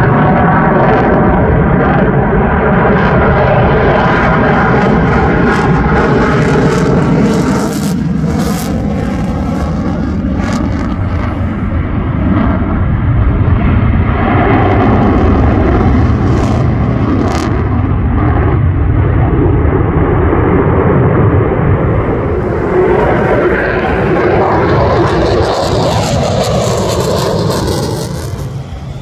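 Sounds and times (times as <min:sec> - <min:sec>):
jet engine roar with afterburners: 0:00.0 - 0:29.0.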